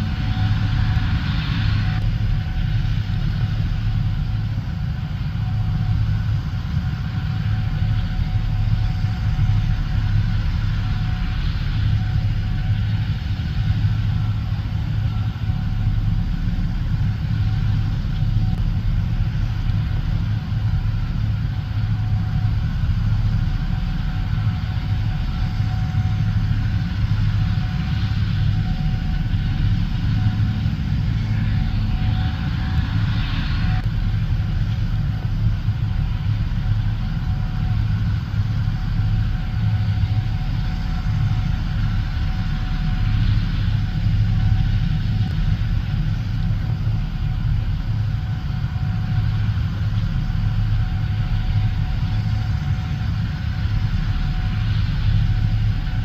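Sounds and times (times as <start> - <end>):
combine harvester engine hum: 0.0 - 56.0.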